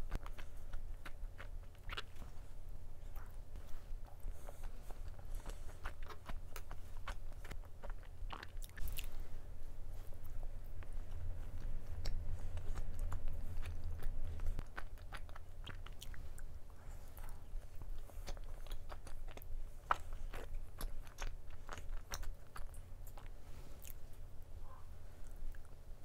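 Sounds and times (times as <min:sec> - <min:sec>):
close-miked chewing: 0:00.0 - 0:26.0.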